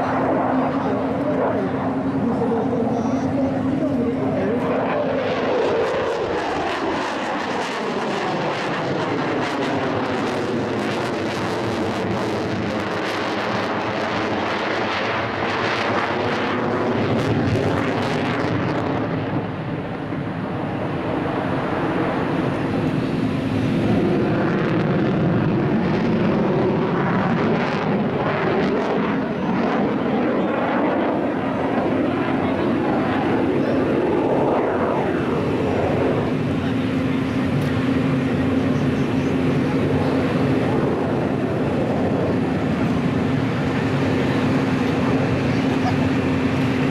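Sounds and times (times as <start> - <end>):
jet engines roaring in flyby: 0.0 - 46.9.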